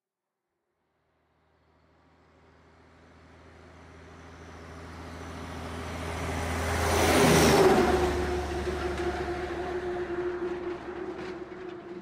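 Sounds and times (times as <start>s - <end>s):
vehicle engine hum: 1.4s - 12.0s
road noise: 1.8s - 12.0s.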